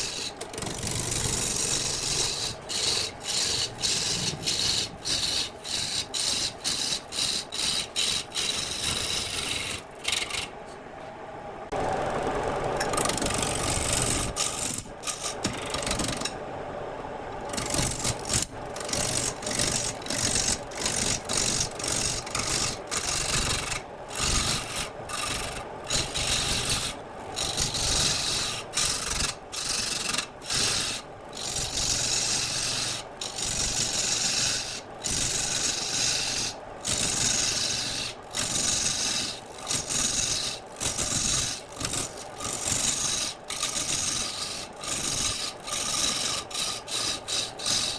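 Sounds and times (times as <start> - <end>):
turning tool cutting wood on lathe: 0.0 - 10.6, 11.7 - 16.4, 17.4 - 47.9.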